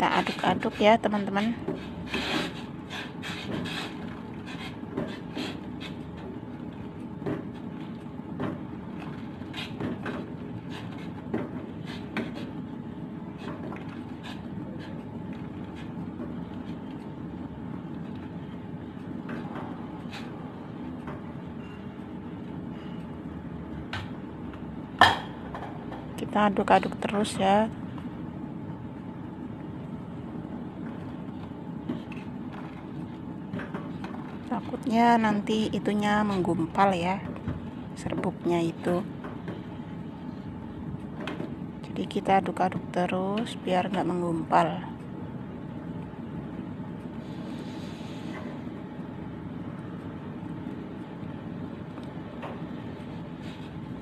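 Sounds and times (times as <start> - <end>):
gas burner roaring: 0.0 - 38.4, 45.1 - 54.0.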